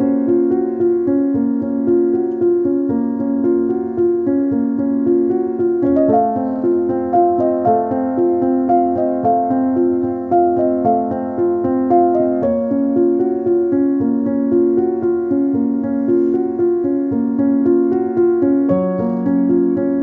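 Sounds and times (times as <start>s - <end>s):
instrumental music with held notes: 0.0s - 20.0s.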